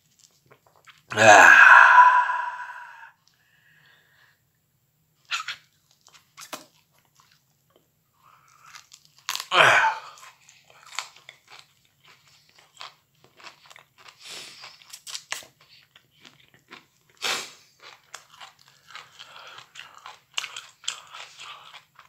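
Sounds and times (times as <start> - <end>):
person chewing crunchy food: 0.0 - 3.0, 5.3 - 22.0.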